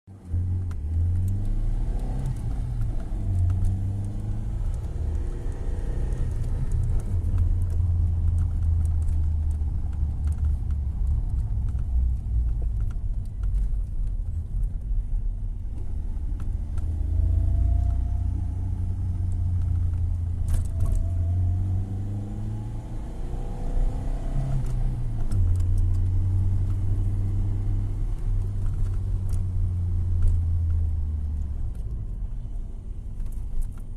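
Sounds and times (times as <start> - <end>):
car engine revving: 0.2 - 11.5, 15.8 - 31.8.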